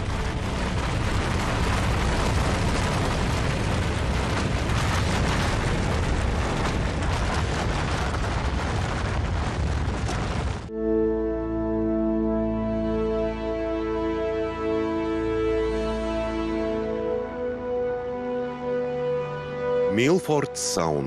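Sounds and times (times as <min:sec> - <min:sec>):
avalanche rumbling: 0:00.0 - 0:20.1.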